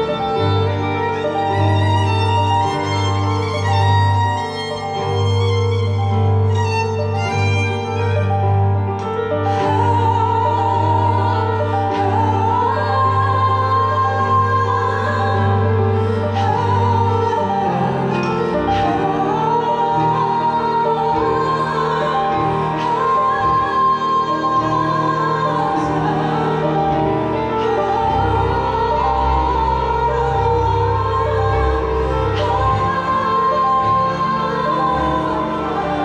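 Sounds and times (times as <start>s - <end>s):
symphony orchestra playing: 0.0s - 36.0s.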